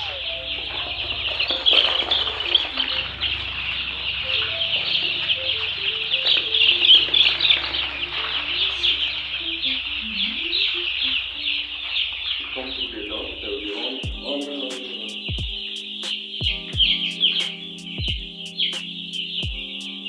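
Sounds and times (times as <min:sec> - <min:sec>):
chicks peeping: 0:00.0 - 0:20.0
slow background music: 0:00.0 - 0:20.0.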